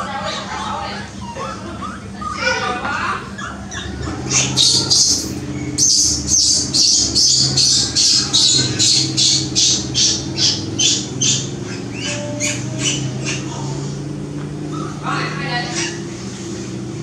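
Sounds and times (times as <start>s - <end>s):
baby monkey squealing: 0.0s - 16.1s.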